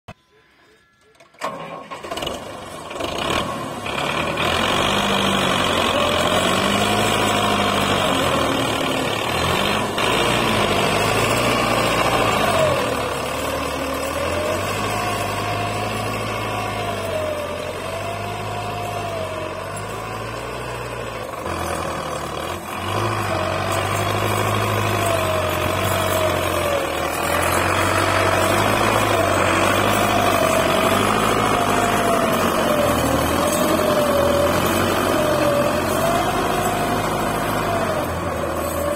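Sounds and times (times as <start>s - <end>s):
tractor diesel engine running: 0.6s - 38.9s.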